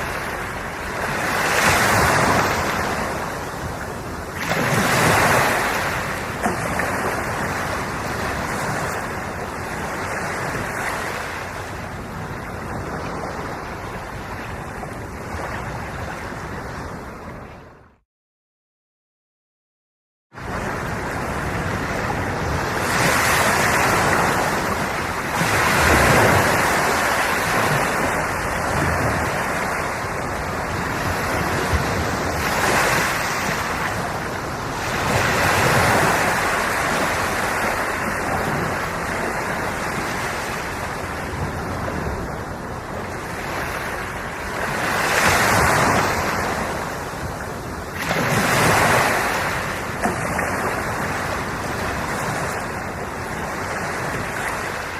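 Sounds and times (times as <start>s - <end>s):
ocean waves washing onto shore: 0.0s - 17.8s, 20.4s - 54.9s.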